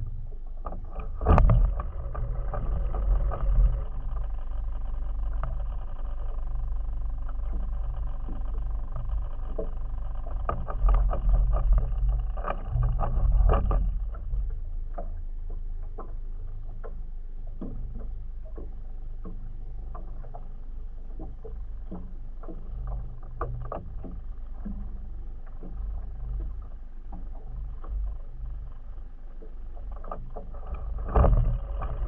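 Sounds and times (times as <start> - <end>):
low steady rumble: 0.0 - 32.0
water slapping against boat hull: 0.0 - 32.0.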